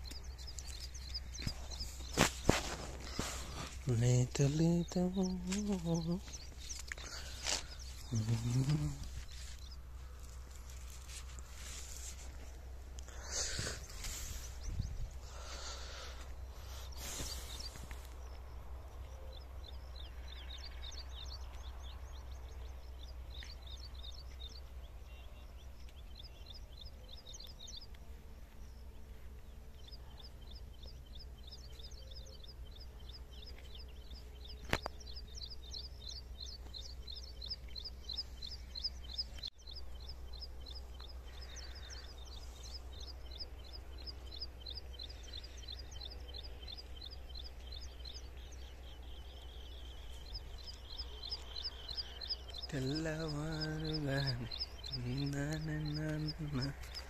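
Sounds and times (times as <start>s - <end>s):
bird chirping: 0.0s - 11.5s, 12.2s - 57.0s.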